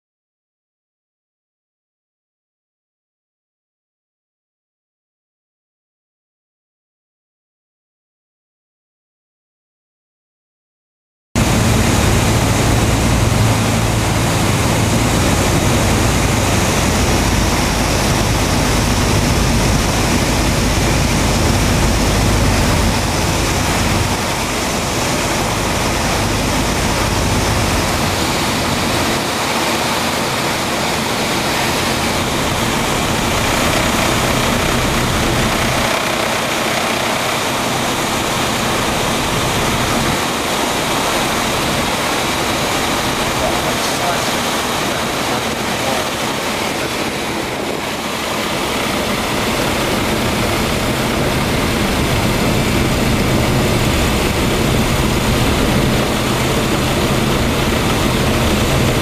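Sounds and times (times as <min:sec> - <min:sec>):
airplane engine and propeller: 0:11.4 - 0:59.0
wind rush: 0:11.4 - 0:59.0.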